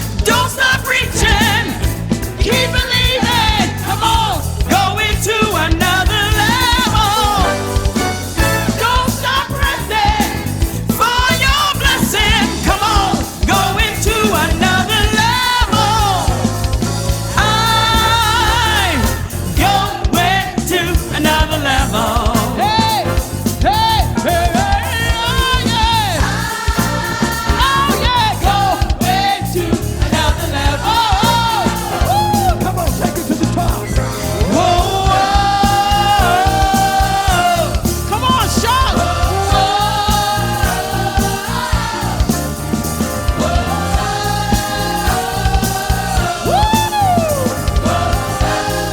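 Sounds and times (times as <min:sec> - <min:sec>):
gospel worship singing: 0:00.0 - 0:48.9
live band with bass and drums: 0:00.0 - 0:48.9.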